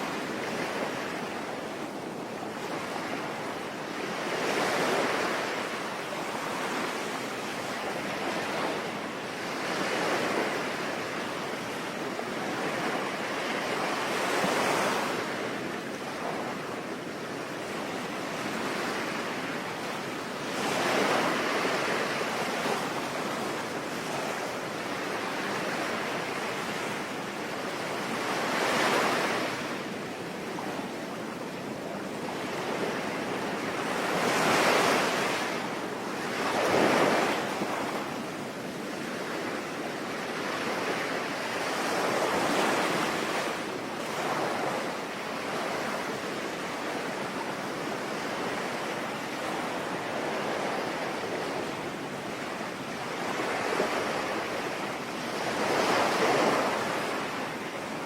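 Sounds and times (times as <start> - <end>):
ocean waves washing onto shore: 0.0 - 58.0.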